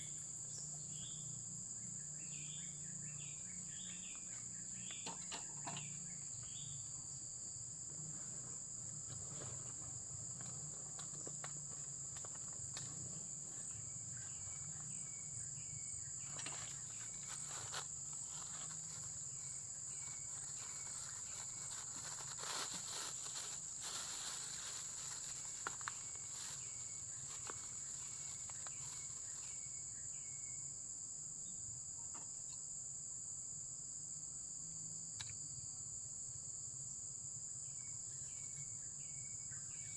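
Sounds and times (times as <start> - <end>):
insects trilling: 0.0 - 39.9
short repeated insect chirp: 0.0 - 39.9.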